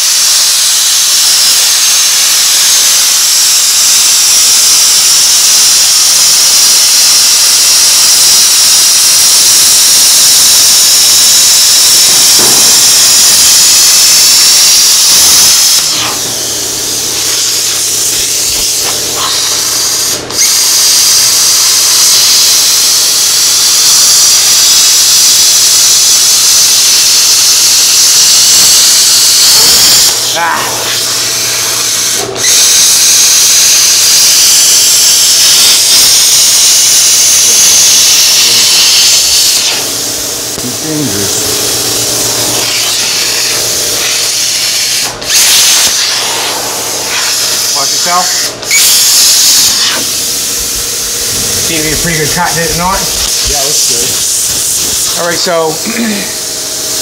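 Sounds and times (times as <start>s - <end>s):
power tool cutting sheet metal: 0.0s - 57.0s.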